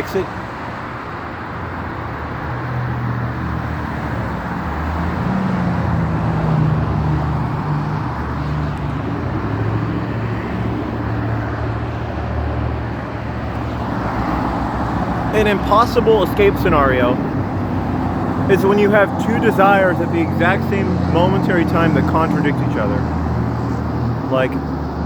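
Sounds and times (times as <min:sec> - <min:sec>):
road noise: 0:00.0 - 0:25.0
vehicle engines running: 0:00.0 - 0:25.0.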